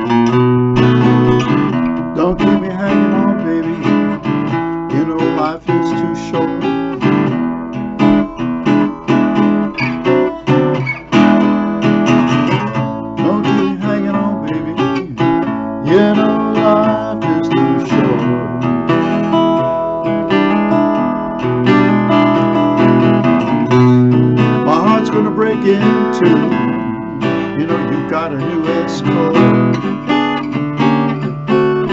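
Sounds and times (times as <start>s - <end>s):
acoustic guitar strummed and picked: 0.0s - 31.9s.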